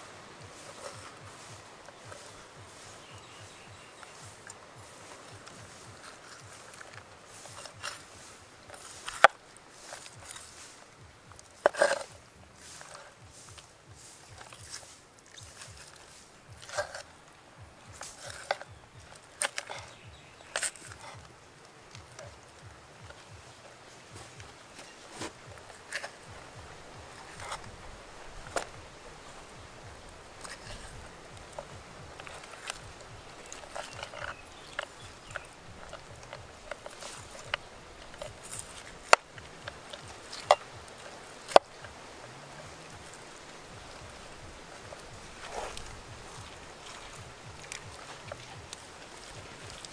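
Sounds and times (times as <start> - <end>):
faint cutting ticks: 0.2 - 49.9.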